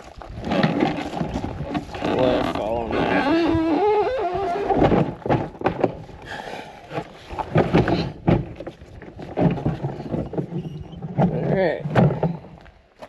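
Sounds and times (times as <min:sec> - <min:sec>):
rock knocking and thumping: 0:00.0 - 0:02.9, 0:04.6 - 0:13.0.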